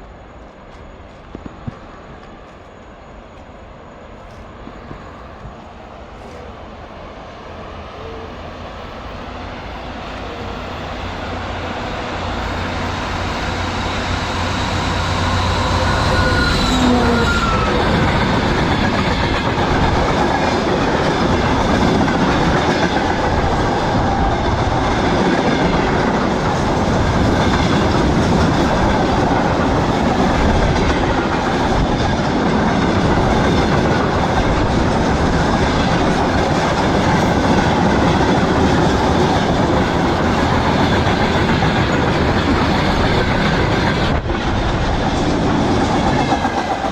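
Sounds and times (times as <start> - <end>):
diesel locomotive passing: 0.0 - 46.9.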